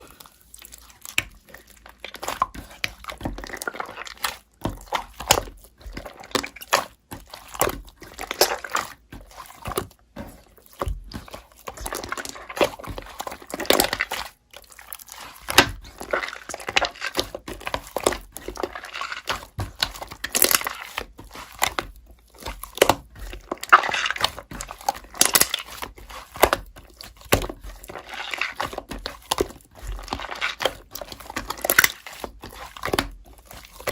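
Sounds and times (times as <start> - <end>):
slime squishing and popping: 0.1 - 33.9.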